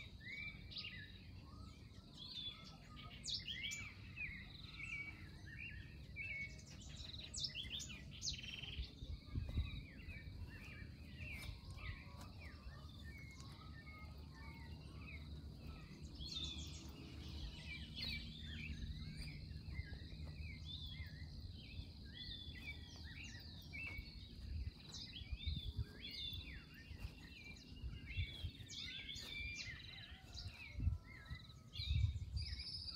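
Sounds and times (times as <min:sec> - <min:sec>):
birds chirping and calling: 0:00.0 - 0:32.9.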